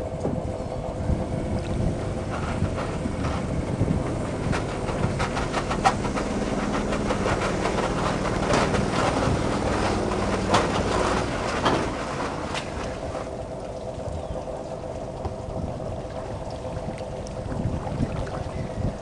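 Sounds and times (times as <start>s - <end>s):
boat lift mechanical hum: 0.0s - 19.0s
machinery clanks and knocks: 0.0s - 19.0s.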